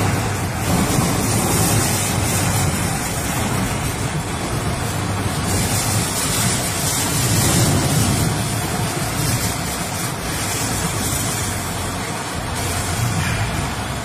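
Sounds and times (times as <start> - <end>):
wind and rain battering a car: 0.0 - 14.0.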